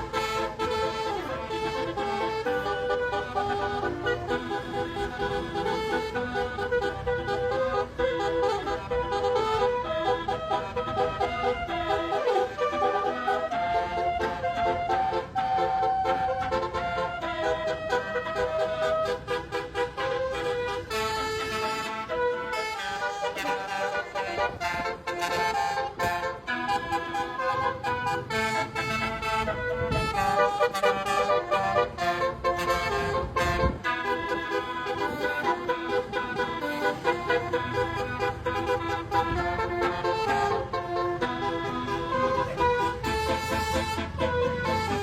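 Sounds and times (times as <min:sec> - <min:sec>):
multi-tone air horn melody: 0:00.0 - 0:45.0.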